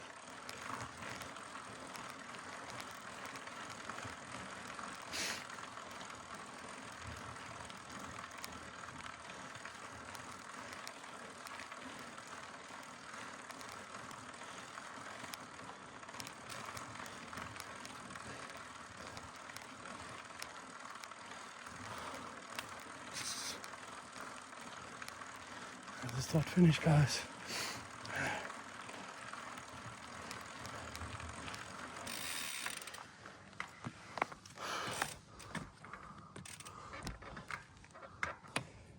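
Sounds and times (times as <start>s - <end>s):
bike chain and drivetrain: 0.0s - 38.9s
bike tyres rolling on dirt: 0.0s - 38.9s.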